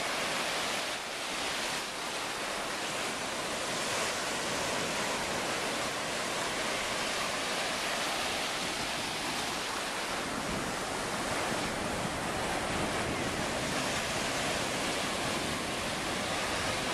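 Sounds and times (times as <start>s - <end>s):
small waves breaking in surf: 0.0s - 16.9s.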